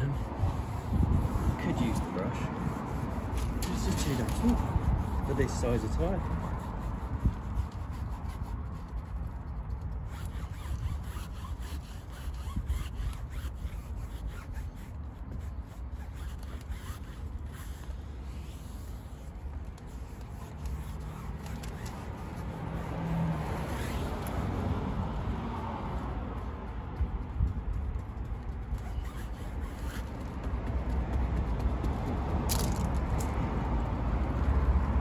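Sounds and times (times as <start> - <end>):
sponge scuffing on tyre: 0.0 - 24.9, 28.4 - 33.0.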